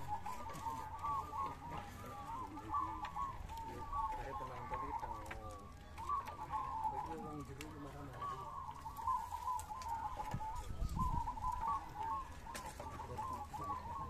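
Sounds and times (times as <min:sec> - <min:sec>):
doves cooing: 0:00.0 - 0:14.0.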